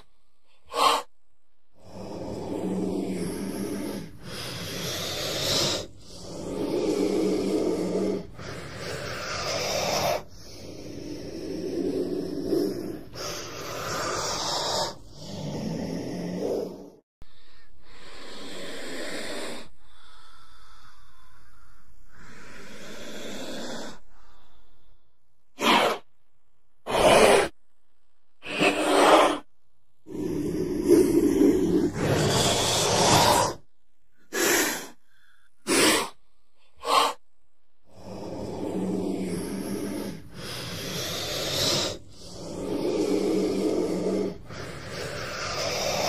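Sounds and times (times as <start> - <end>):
snake hissing: 0.6 - 1.1, 1.8 - 26.2, 26.8 - 27.6, 28.4 - 37.2, 37.9 - 46.0.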